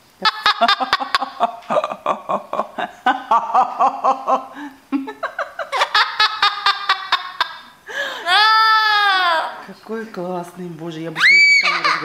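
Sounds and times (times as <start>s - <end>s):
parrot imitating laughter: 0.2s - 9.6s, 11.2s - 12.0s.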